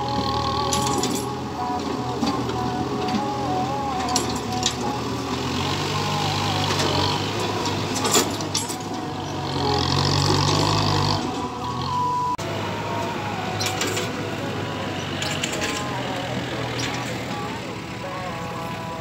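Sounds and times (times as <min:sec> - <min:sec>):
disc harrow through loose dirt: 0:00.0 - 0:19.0
tractor diesel engine working: 0:00.0 - 0:19.0.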